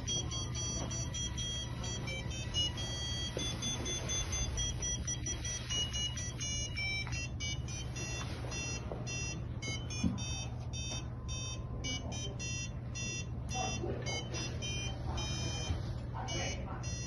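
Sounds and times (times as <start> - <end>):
electronic buzzer beeping a tune: 0.0 - 17.0.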